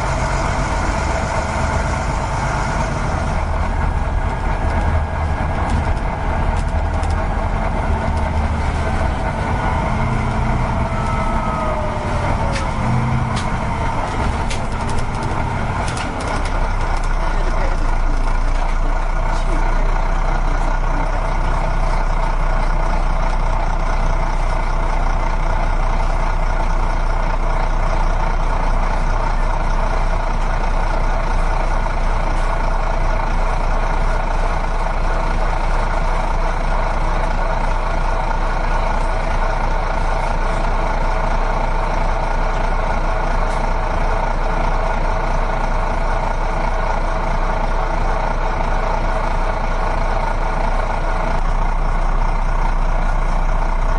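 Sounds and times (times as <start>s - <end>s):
vehicle motor humming: 0.0s - 53.9s.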